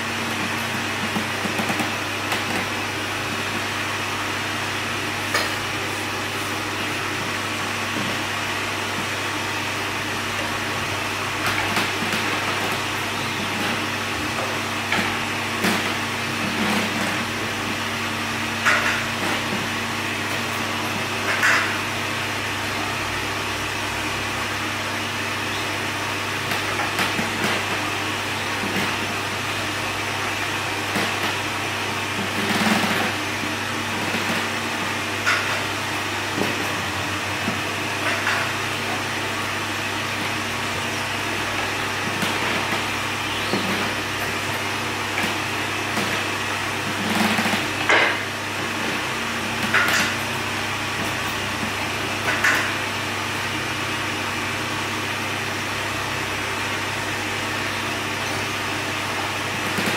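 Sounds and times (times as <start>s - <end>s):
workshop machinery hum: 0.0s - 59.9s.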